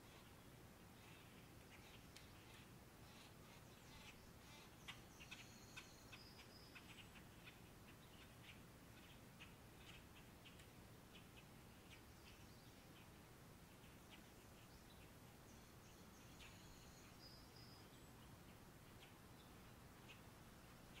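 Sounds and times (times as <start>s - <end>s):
small bird chirps: 1.0s - 21.0s.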